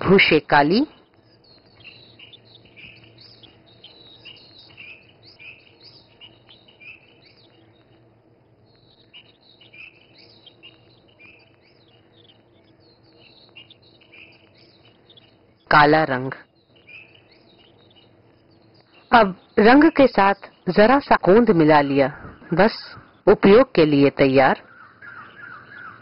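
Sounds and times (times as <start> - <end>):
faint steady hum: 0.0 - 26.0
small birds chirping: 0.0 - 26.0.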